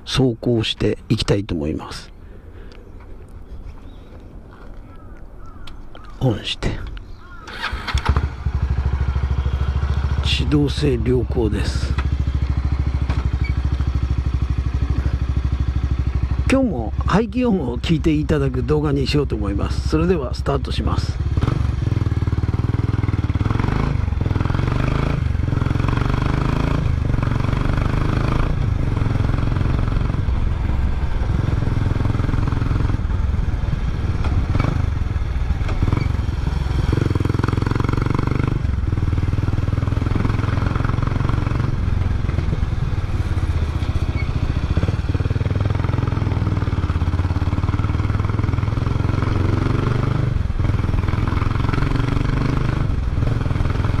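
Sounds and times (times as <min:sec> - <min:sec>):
motorcycle engine running: 0:07.2 - 0:54.0.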